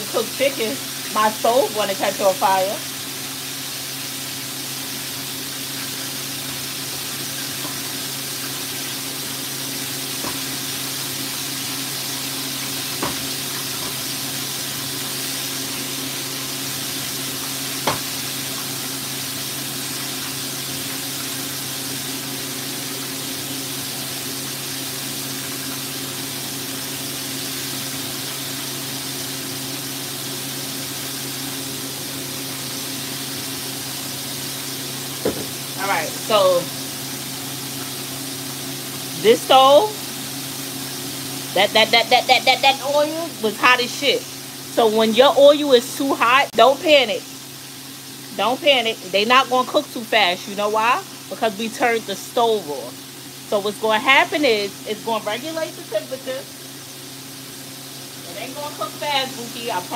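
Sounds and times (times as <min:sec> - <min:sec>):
chicken wings deep-frying: 0:00.0 - 0:59.9.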